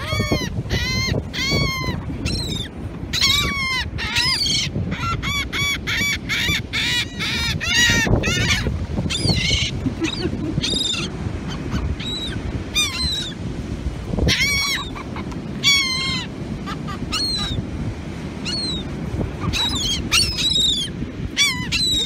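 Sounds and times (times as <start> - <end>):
gulls squawking: 0.0 - 13.4, 14.2 - 17.7, 18.4 - 22.0
wind and surf rushing: 0.0 - 22.0.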